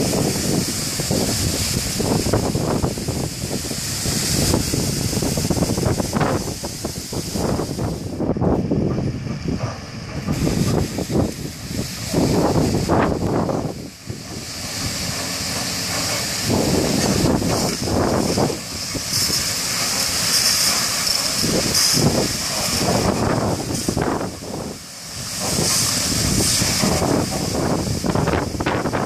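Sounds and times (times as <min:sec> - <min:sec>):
water jets hissing: 0:00.0 - 0:29.0.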